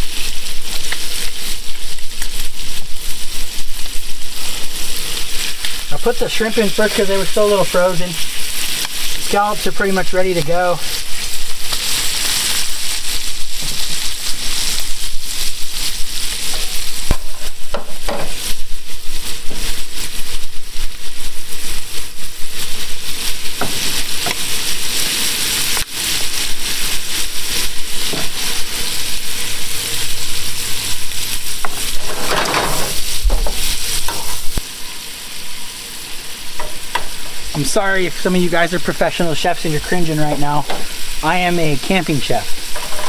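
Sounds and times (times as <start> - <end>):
shrimp sizzling in a pan: 0.0 - 43.0.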